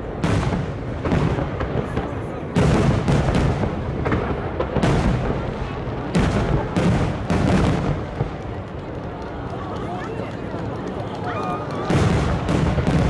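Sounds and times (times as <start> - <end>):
rumble of fireworks display: 0.0 - 13.0.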